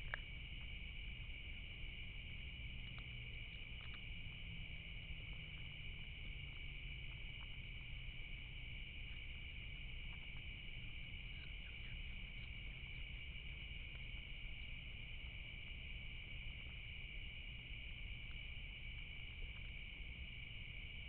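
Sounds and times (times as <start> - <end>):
night insect chorus trilling: 0.0 - 21.0.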